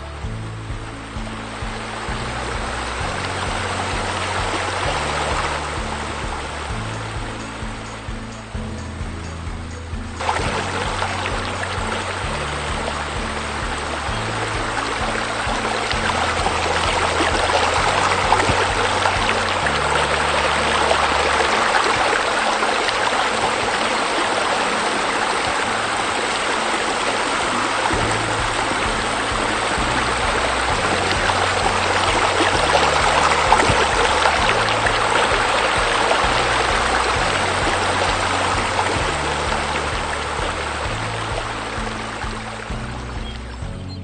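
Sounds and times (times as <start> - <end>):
waterfall splashing: 0.0 - 9.0, 9.9 - 44.0
background music bass notes: 0.0 - 44.0.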